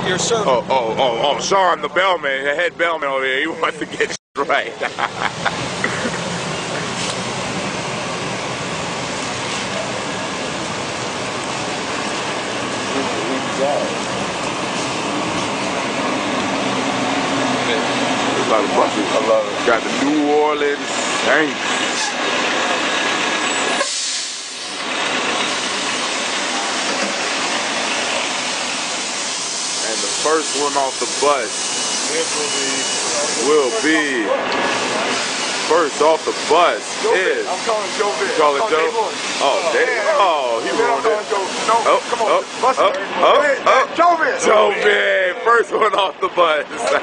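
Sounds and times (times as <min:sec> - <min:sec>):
bus engine running: 0:00.0 - 0:47.0.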